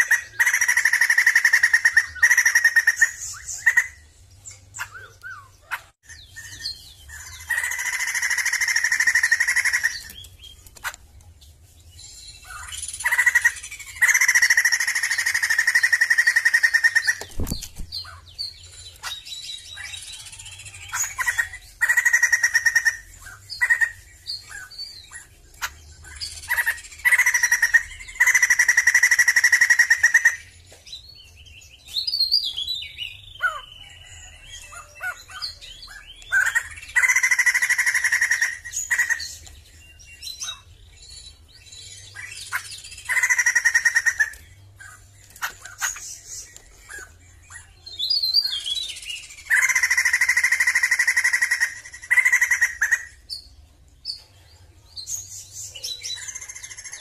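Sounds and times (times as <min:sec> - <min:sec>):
bird singing rattling phrases: 0:00.0 - 0:57.0.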